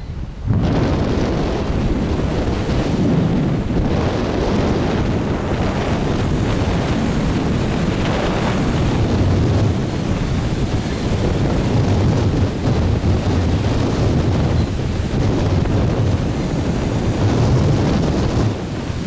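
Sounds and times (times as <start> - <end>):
wind rumbling on microphone: 0.0 - 19.0
waves breaking against rocks: 0.4 - 19.0.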